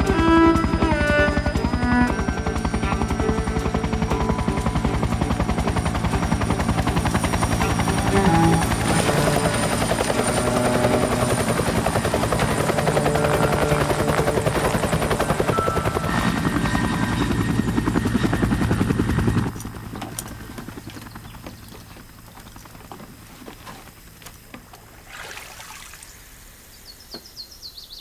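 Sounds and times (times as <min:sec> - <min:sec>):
helicopter rotor chop: 0:00.0 - 0:23.3.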